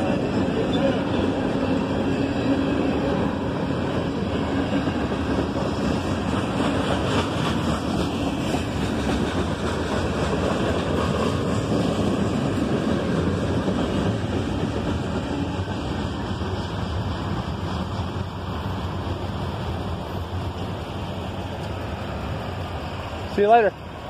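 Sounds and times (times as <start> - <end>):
freight train cars rolling on rails: 0.0 - 24.0.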